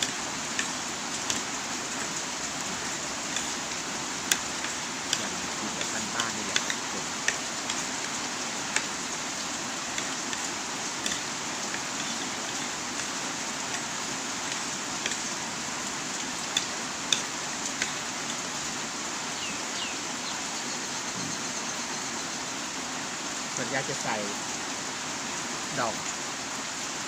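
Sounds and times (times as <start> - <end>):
heavy rain falling: 0.0 - 27.0
raindrops ticking on surfaces: 0.0 - 27.0.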